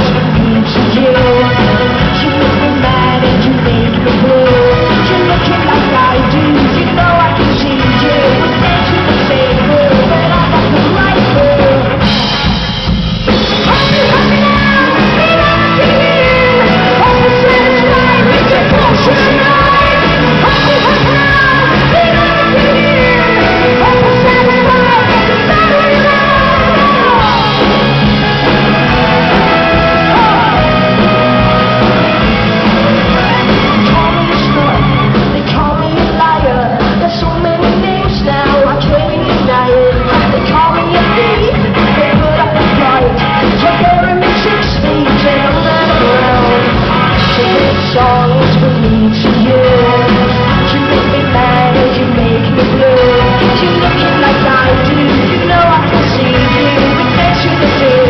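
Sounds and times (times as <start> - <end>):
person singing: 0.0 - 12.3, 13.5 - 58.0
rock band playing live: 0.0 - 58.0.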